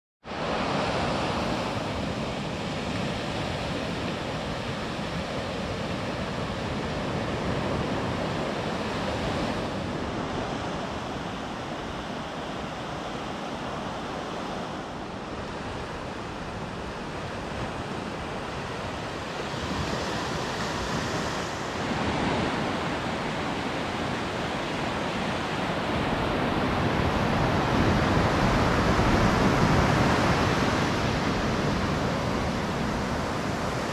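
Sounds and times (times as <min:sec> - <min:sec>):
small waves breaking on beach: 0:00.3 - 0:33.9
wind rumbling on microphone: 0:00.3 - 0:33.9.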